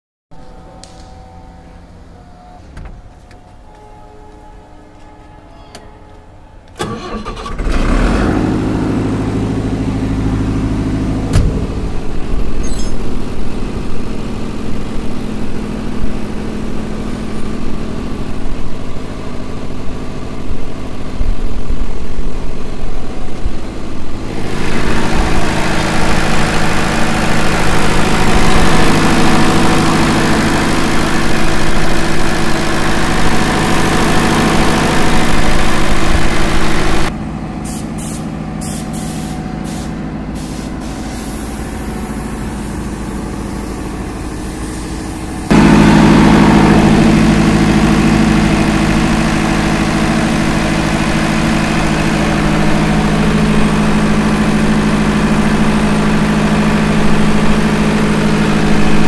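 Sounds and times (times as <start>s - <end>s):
diesel generator running: 6.7s - 59.0s.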